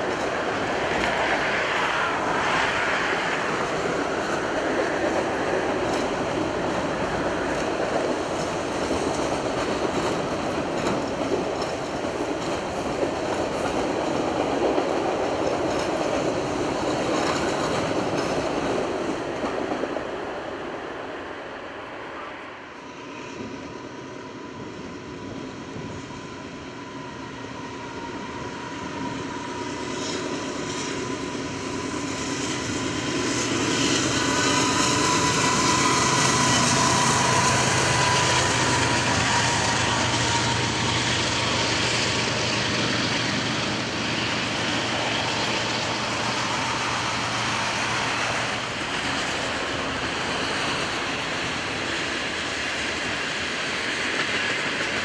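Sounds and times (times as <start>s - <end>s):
diesel locomotive engine passing: 0.0s - 55.0s
rumble of wheels on rail: 0.0s - 55.0s.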